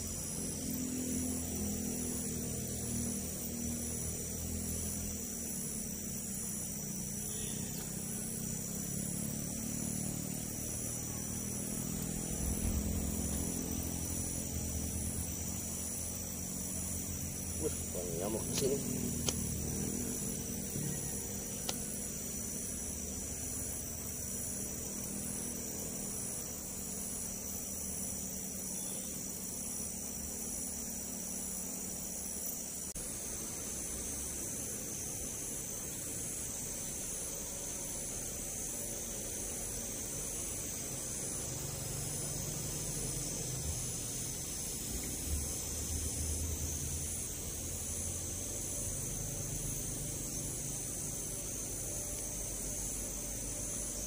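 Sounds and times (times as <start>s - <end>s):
high-pitched insect chorus: 0.0s - 54.0s
insect pulsing rhythmically: 0.0s - 54.0s.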